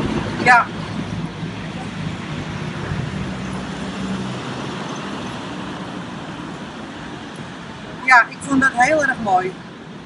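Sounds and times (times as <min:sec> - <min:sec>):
background traffic rush: 0:00.0 - 0:10.0
vehicle engine hum: 0:00.0 - 0:10.0.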